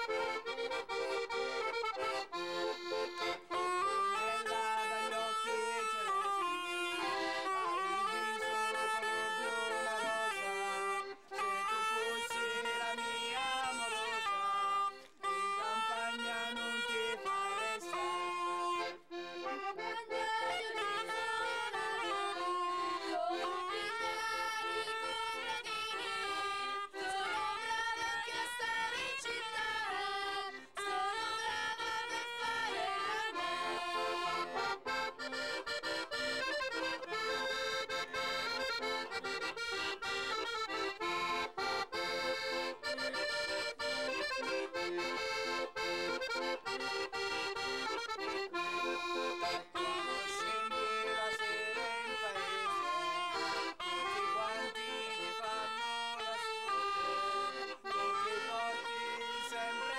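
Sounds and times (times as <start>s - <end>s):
accordion playing folk dance tune: 0.0s - 59.9s.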